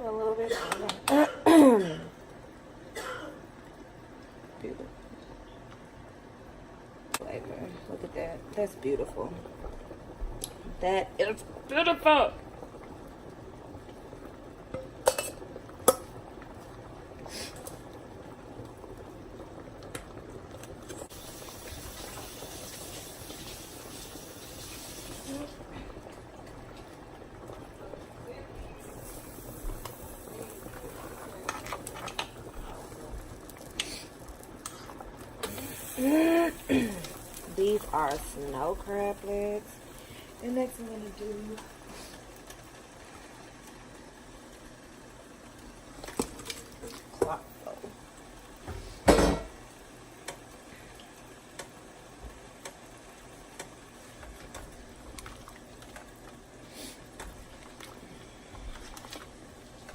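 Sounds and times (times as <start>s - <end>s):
low steady hiss: 0.0s - 59.9s
liquid bubbling in a pot: 1.8s - 59.9s.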